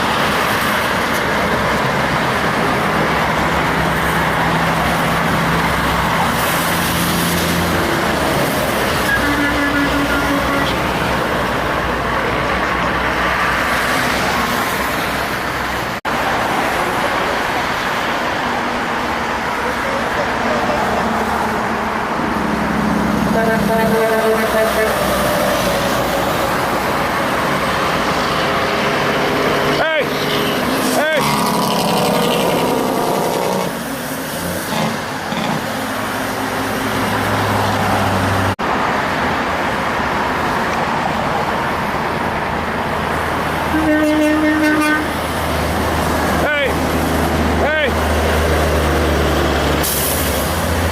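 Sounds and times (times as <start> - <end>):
busy road traffic: 0.0 - 50.9.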